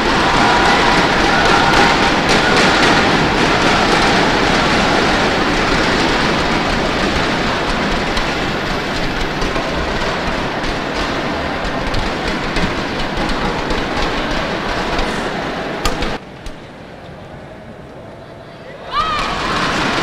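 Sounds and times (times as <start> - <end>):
crowd cheering: 0.0 - 16.2, 18.3 - 20.0
crowd clapping: 0.0 - 16.2
thundersticks banging: 0.0 - 16.7.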